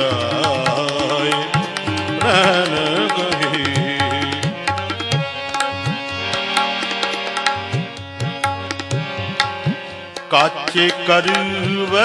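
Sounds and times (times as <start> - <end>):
harmonium held notes: 0.0 - 12.0
tabla playing a rhythm: 0.0 - 12.0.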